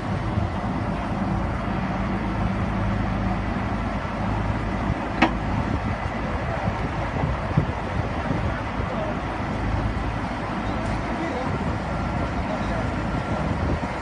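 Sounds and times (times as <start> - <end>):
drilling rig engine running: 0.0 - 14.0.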